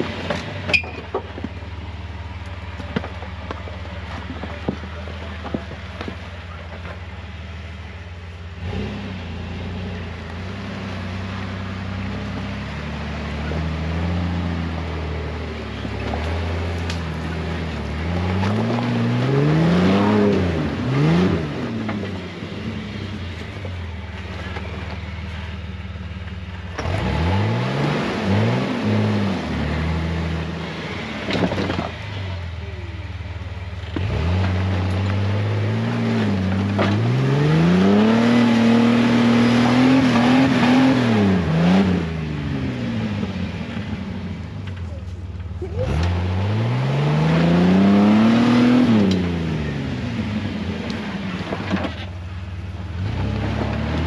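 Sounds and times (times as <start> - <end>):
engine revving under load: 0.0 - 54.0.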